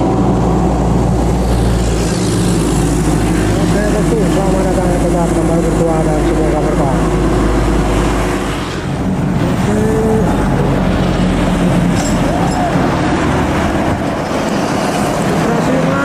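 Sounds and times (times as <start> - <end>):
highway traffic passing: 0.0 - 16.0.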